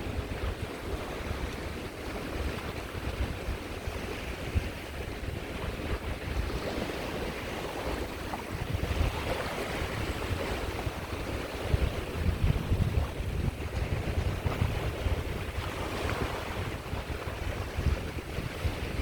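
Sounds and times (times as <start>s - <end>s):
waves washing on shore: 0.0s - 19.0s
wind buffeting microphone: 0.0s - 19.0s.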